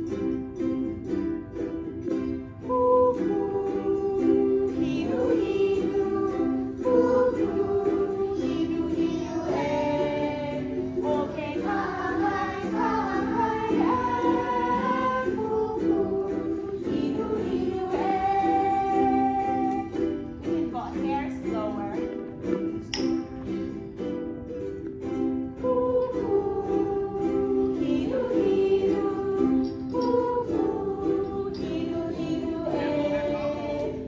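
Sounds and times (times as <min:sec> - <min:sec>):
person singing hula song: 0:00.0 - 0:34.0
ukulele chords: 0:00.0 - 0:34.0.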